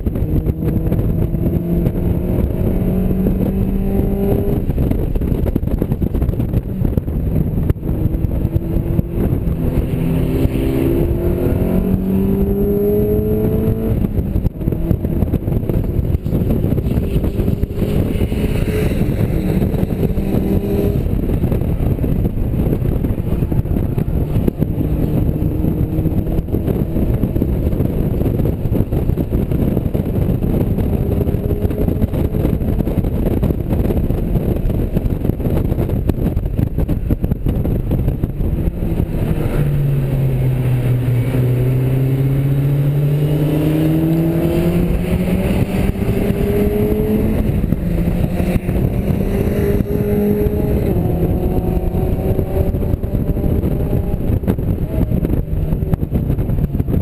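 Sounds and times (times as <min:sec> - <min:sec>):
car engine running hard: 0:00.0 - 0:57.0
wind and road noise: 0:00.0 - 0:57.0.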